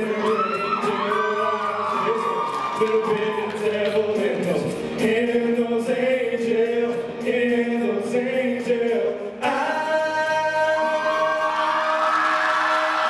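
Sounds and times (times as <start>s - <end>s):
backing track with steady beat: 0.0s - 11.1s
men singing into microphones: 0.0s - 13.0s.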